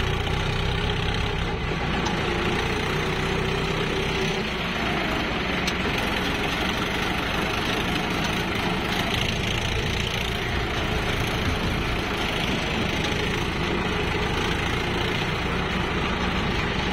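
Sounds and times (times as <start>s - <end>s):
tractor diesel engine running: 0.0s - 16.9s.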